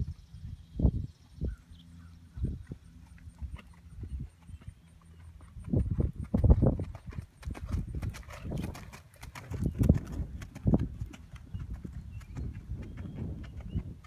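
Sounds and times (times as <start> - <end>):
horse hoofbeats trotting: 2.4 - 14.0.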